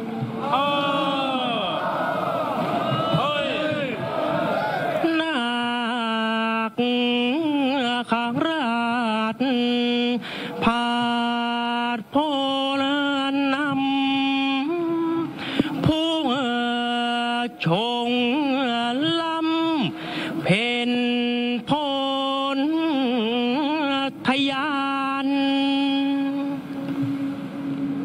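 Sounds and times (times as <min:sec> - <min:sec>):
person chanting: 0:00.4 - 0:02.0, 0:04.9 - 0:26.7.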